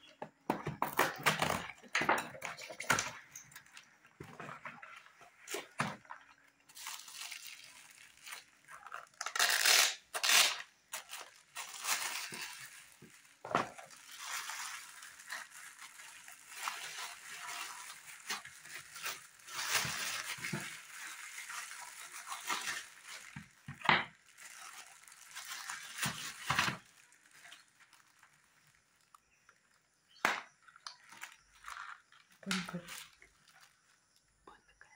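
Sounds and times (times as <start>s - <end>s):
plastic wrapping crinkling: 0.7s - 34.5s.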